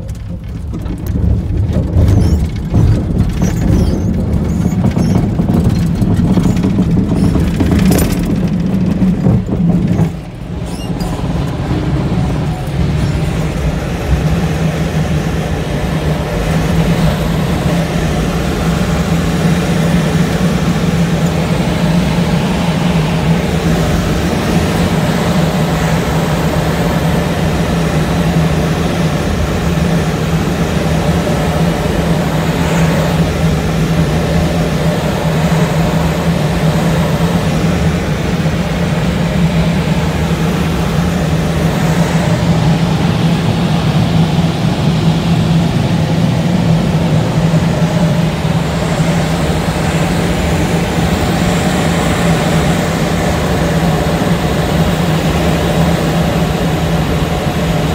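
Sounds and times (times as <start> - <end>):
plane engine and propeller drone: 0.0 - 57.9
rushing air: 0.0 - 57.9.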